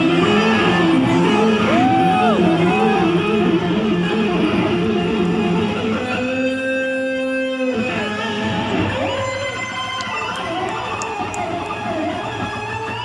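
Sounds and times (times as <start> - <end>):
electric guitar notes: 0.0 - 13.0.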